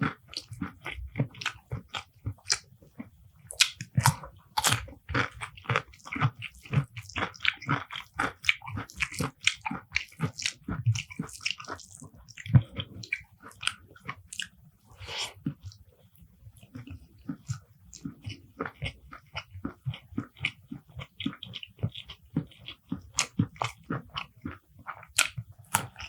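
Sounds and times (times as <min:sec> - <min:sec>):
person chewing and biting: 0:00.0 - 0:15.8, 0:16.6 - 0:26.0.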